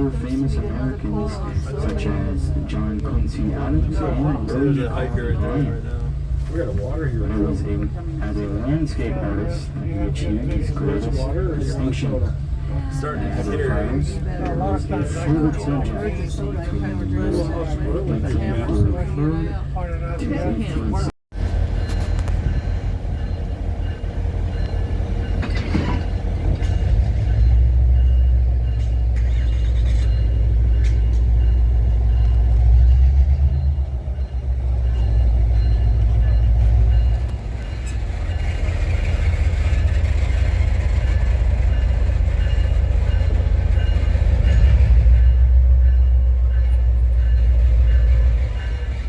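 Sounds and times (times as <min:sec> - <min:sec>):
passenger train rumbling on rails: 0:00.0 - 0:49.0.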